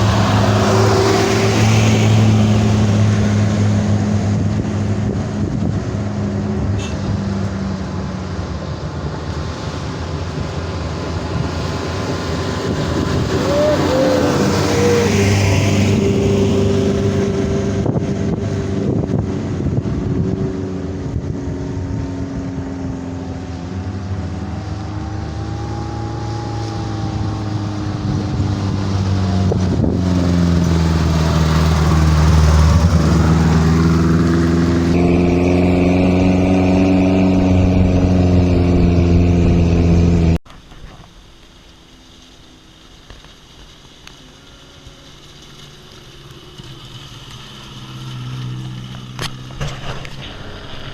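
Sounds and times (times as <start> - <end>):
off-road vehicle engine revving: 0.0 - 40.4, 44.8 - 50.9.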